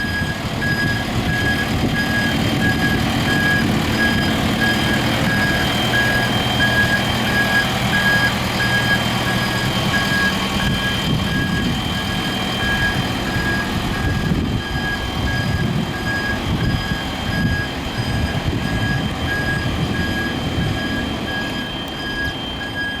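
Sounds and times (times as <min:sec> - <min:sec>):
diesel engine running: 0:00.0 - 0:23.0
reversing alarm beeping: 0:00.0 - 0:23.0.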